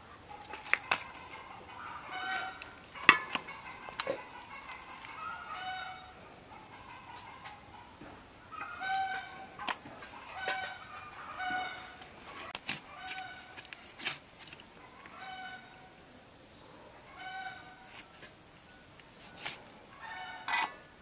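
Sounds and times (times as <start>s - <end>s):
chickens calling: 0.0s - 21.0s.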